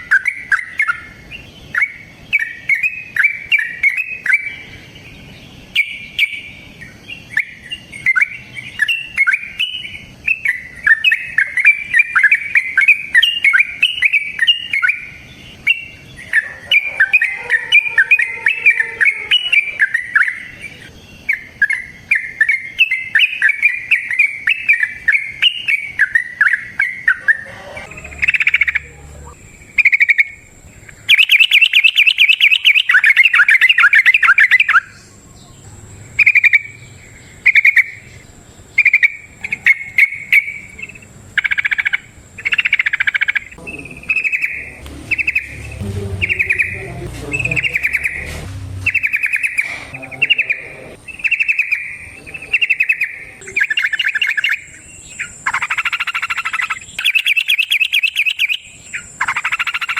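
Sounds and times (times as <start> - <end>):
bird singing warbling phrases: 0.0 - 59.9.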